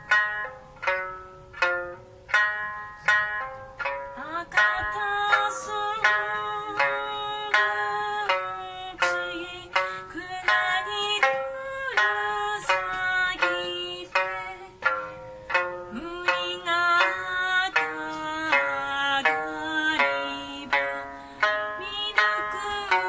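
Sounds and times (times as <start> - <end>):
plucked three-string lute: 0.0 - 23.0
woman singing folk song: 4.1 - 23.0.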